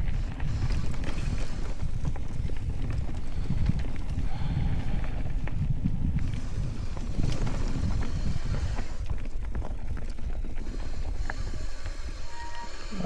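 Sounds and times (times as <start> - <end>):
bike clicks and rattles: 0.0 - 12.3
wind buffeting microphone: 0.0 - 13.0.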